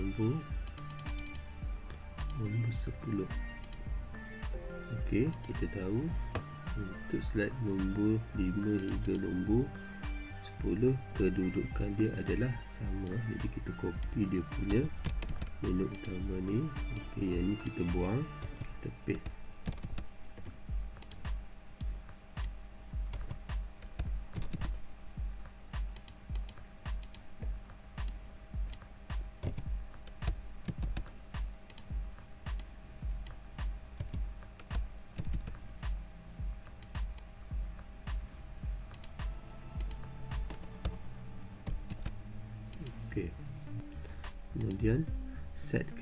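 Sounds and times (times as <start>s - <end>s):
keyboard and mouse clicking: 0.0s - 2.5s, 3.1s - 6.5s, 7.8s - 9.4s, 13.0s - 17.8s, 18.4s - 41.0s, 41.6s - 43.0s, 43.8s - 45.3s
faint background music: 0.0s - 46.0s.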